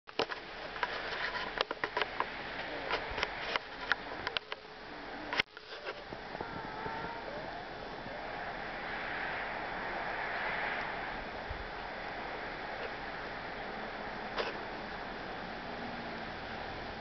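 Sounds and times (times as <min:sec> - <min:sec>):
steady outdoor hiss: 0:00.1 - 0:17.0
faint wavering tones: 0:02.1 - 0:17.0.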